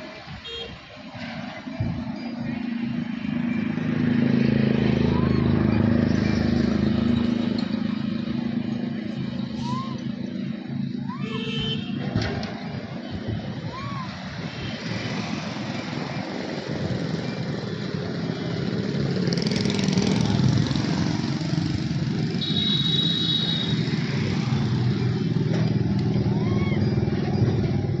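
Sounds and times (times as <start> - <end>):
vehicle engine noise: 0.0 - 28.0.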